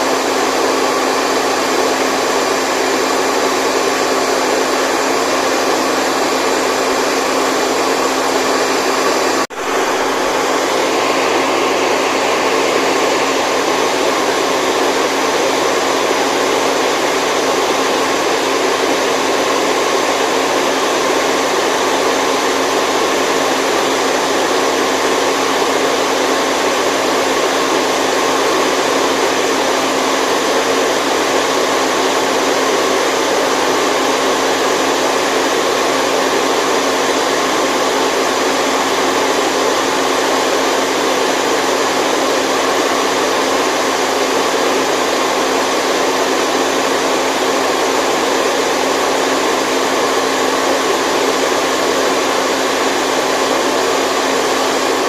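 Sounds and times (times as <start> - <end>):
loud white noise: 0.0 - 55.0.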